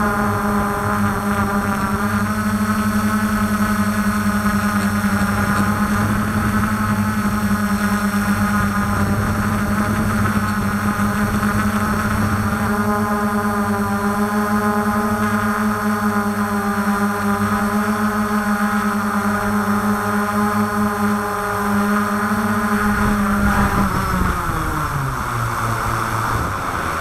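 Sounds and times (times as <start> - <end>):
quadcopter motors humming: 0.0 - 27.0.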